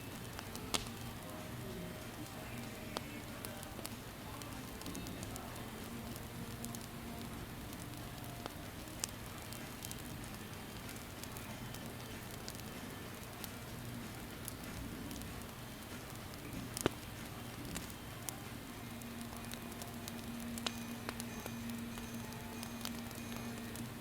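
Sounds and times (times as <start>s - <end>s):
campfire crackling and hissing: 0.0s - 24.0s.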